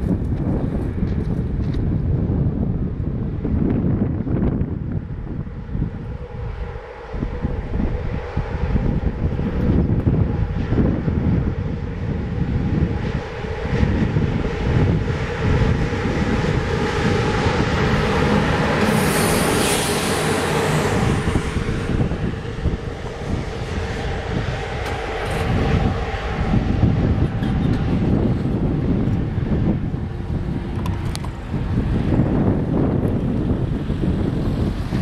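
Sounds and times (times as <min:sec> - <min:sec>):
motor and blower hum: 0:00.0 - 0:35.0
wheels rumbling on rail: 0:00.0 - 0:35.0
wind on microphone: 0:00.0 - 0:35.0
hissing rush of passing train: 0:04.8 - 0:35.0.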